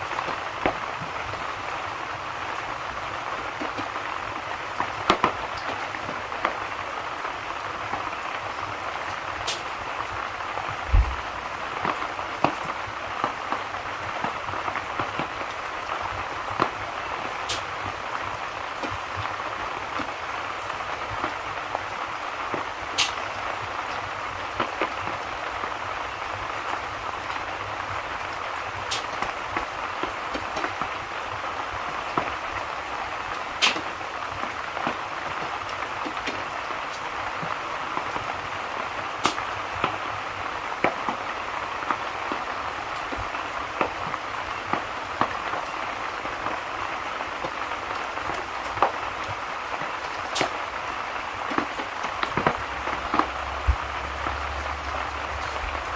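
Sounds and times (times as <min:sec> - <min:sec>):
steady rain hiss: 0:00.0 - 0:55.9
wood fire crackling and popping: 0:00.0 - 0:55.9.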